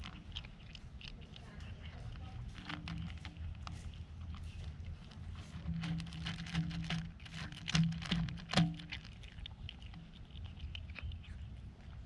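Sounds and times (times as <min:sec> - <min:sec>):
cat crunching food: 0:00.0 - 0:12.0.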